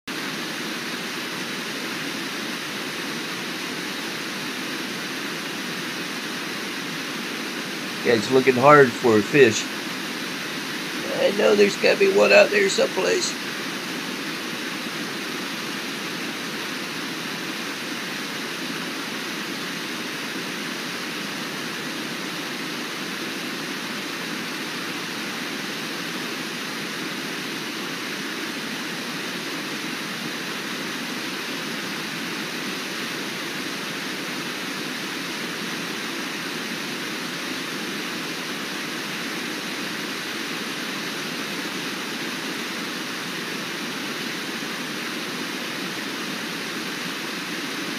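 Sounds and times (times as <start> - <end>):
low waterfall: 0.1 - 47.9
white-water rapids roaring: 0.2 - 47.9.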